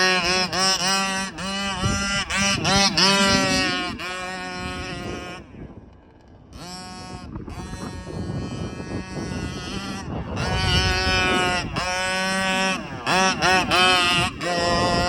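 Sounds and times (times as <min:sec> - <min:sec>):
two-stroke engine revving: 0:00.0 - 0:05.5, 0:06.5 - 0:15.0.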